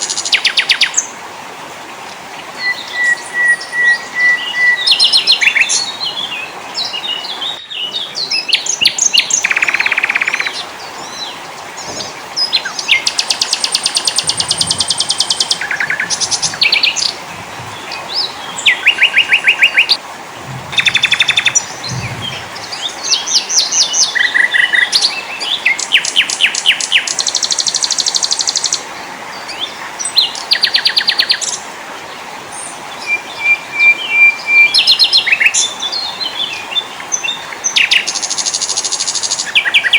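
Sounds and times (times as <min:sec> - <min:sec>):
songbirds chirping and trilling: 0:01.8 - 0:39.9.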